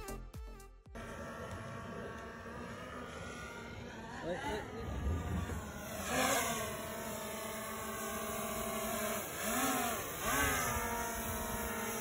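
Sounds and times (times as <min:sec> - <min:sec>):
drone propeller whine: 0:00.9 - 0:12.0.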